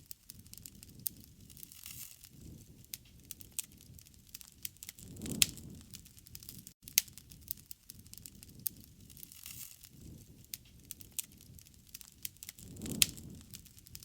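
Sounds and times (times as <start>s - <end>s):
fire crackles: 0.0s - 14.0s
low rumble of flame: 0.0s - 14.0s
sharp pops of fire: 0.0s - 14.0s.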